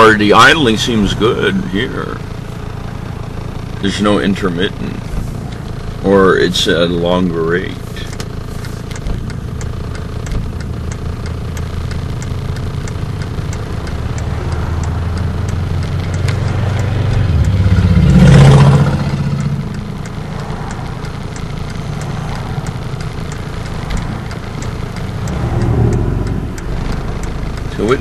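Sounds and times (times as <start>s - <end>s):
diesel engine idling: 0.0s - 28.0s
light regular ticking: 0.0s - 28.0s
passing traffic: 0.0s - 28.0s.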